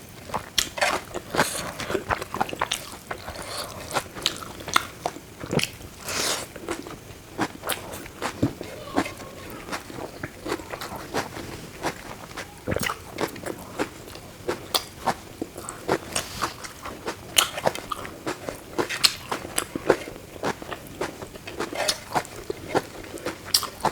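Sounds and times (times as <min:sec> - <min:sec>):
food crunching: 0:00.2 - 0:23.9
person chewing food: 0:00.2 - 0:23.9.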